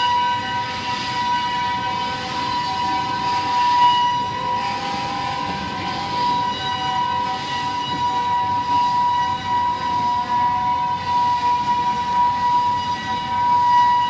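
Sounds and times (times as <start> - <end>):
high-pitched train wheel squeal: 0.0 - 14.0
rumble and hiss of train cars: 0.0 - 14.0.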